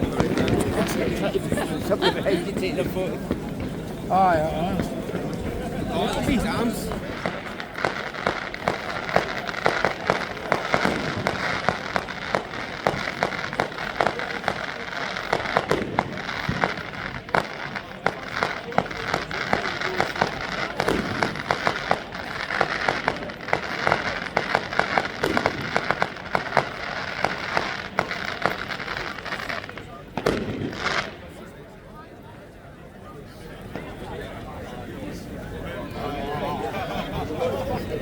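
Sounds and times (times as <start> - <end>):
fireworks cracks and bangs: 0.0 - 31.7
crowd chatter: 0.0 - 38.0.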